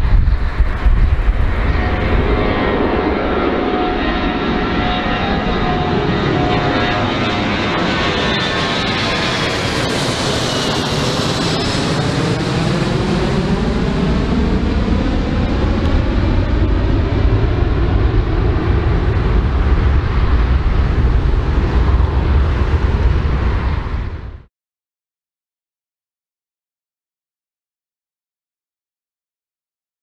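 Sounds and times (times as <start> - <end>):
engine whine falling in pitch: 0.0 - 24.4
jet airliner flying overhead: 0.0 - 24.5.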